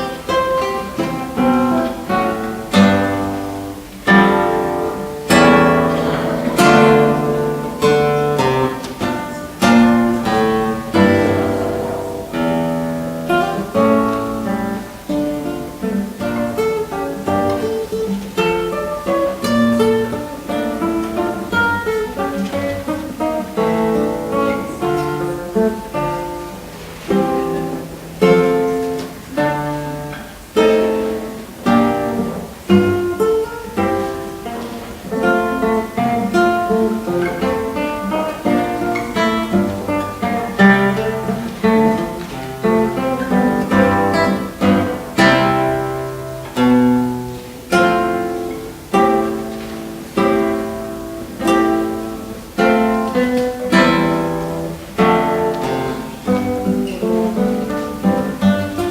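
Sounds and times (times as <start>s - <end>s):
acoustic guitar plucking: 0.0s - 58.9s.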